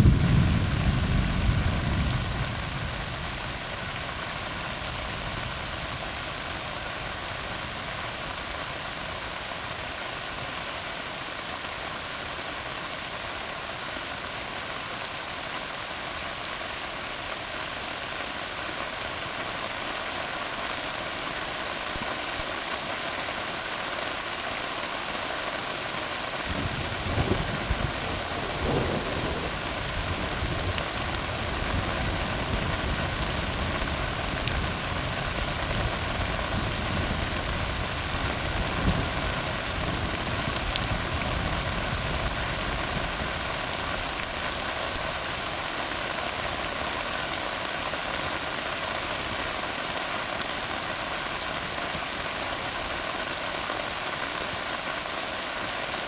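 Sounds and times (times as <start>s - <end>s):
rain falling on road: 0.0s - 56.0s.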